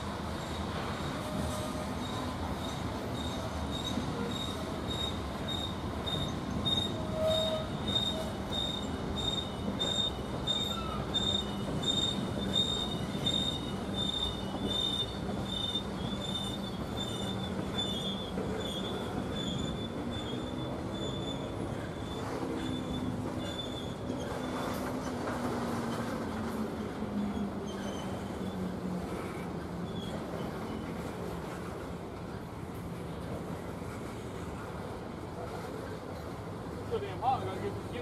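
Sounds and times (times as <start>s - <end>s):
low rumble of train cars: 0.0s - 38.0s
train wheels squealing on rail: 0.0s - 38.0s.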